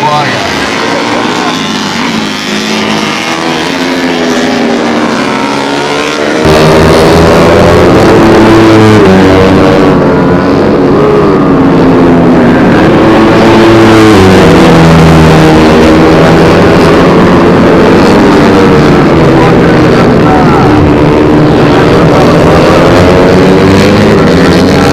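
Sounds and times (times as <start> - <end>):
motorcycles revving: 0.0 - 24.9.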